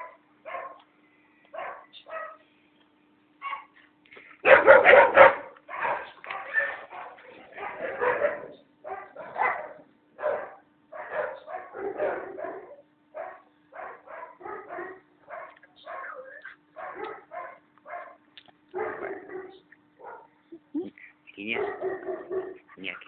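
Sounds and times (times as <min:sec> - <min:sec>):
dogs barking in play: 0:00.0 - 0:00.9, 0:01.5 - 0:02.4, 0:03.4 - 0:20.4, 0:21.5 - 0:22.8
faint steady hum: 0:00.0 - 0:23.0.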